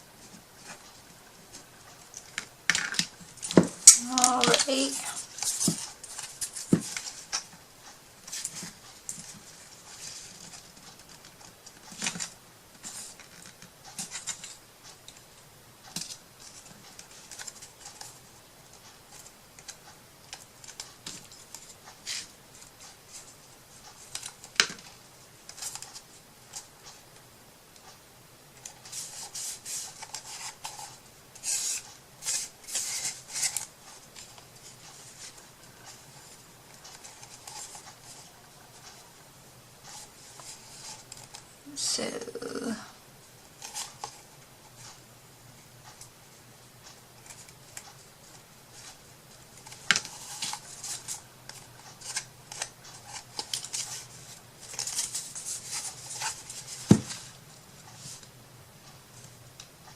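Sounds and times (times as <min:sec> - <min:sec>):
paper rustling and scratching: 0:00.2 - 0:07.5, 0:08.2 - 0:14.6, 0:15.8 - 0:27.0, 0:28.6 - 0:39.1, 0:43.5 - 0:45.0, 0:46.8 - 0:58.3.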